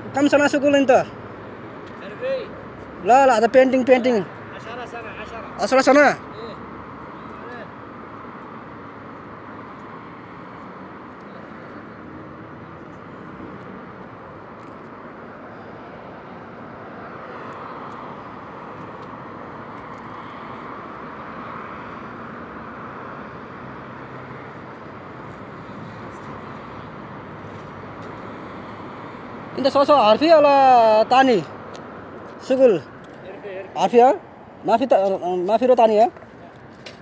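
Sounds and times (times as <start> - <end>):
road traffic hum: 0.0 - 37.0.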